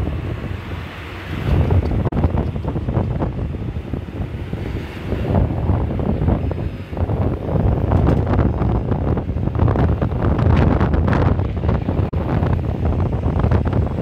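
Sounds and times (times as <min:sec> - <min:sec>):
car passing: 0:00.0 - 0:14.0
wind buffeting microphone: 0:00.0 - 0:14.0.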